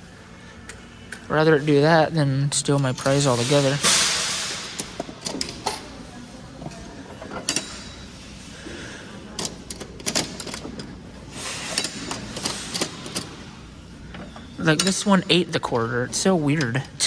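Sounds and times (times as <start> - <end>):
vending machine mechanism clicking: 2.5 - 17.0.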